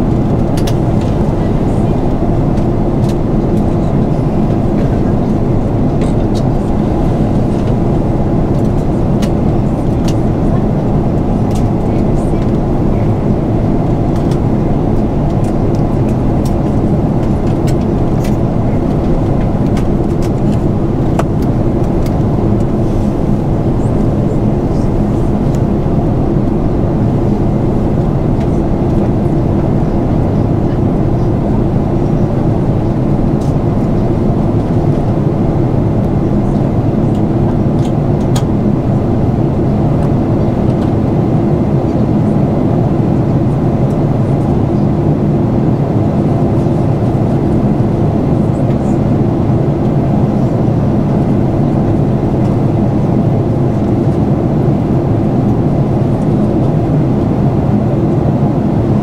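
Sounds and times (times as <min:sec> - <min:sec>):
aircraft cabin engine drone: 0:00.0 - 0:59.0.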